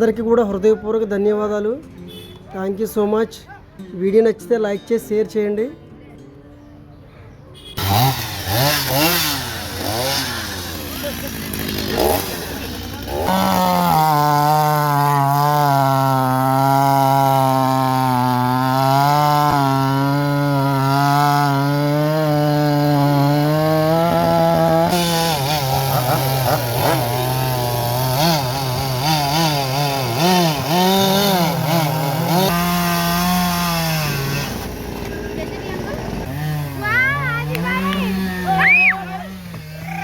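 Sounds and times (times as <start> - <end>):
chainsaw cutting wood: 7.8 - 40.0.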